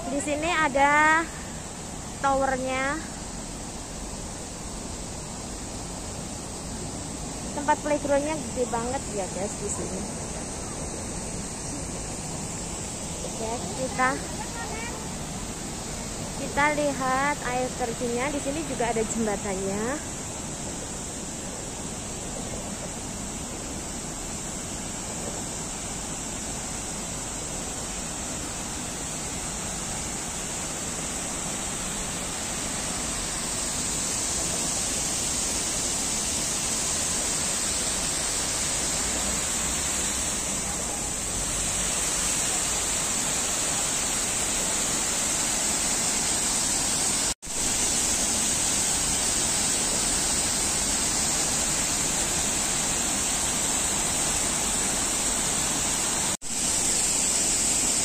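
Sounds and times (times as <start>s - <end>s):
waterfall cascading into pond: 0.0s - 58.0s.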